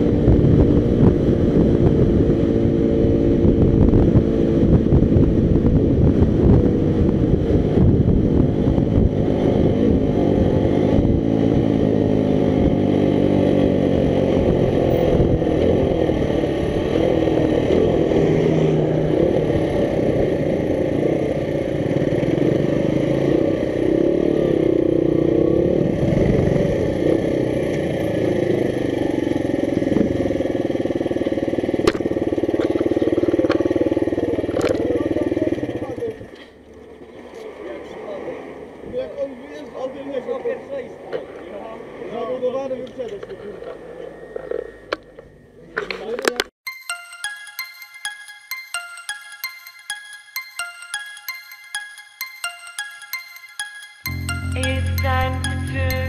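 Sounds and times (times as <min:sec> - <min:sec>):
motorcycle engine revving: 0:00.0 - 0:46.1.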